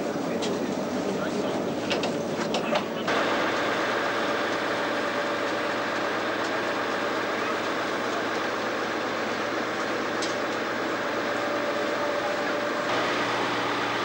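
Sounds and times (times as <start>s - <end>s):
railcar engine idling: 0.0s - 14.0s.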